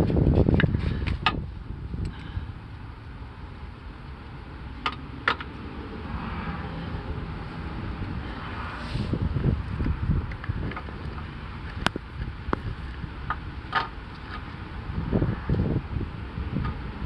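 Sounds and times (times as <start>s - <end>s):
wind on microphone: 0.0s - 2.7s, 5.8s - 17.0s
car rumble on the move: 0.0s - 17.0s.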